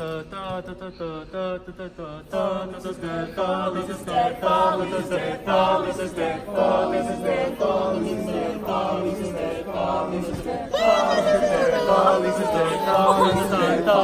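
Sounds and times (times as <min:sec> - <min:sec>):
group singing in chorus: 0:00.0 - 0:14.0.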